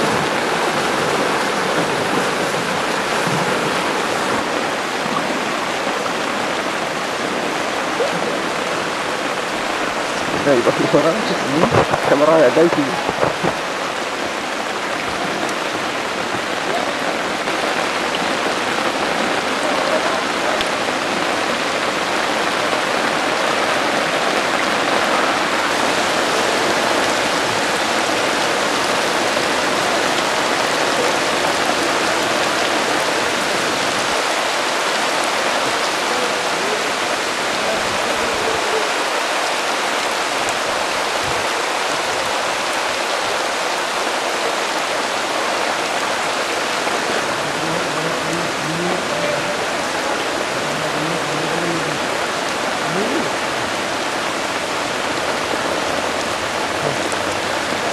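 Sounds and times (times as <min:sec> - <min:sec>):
rain falling on water: 0:00.0 - 0:57.9.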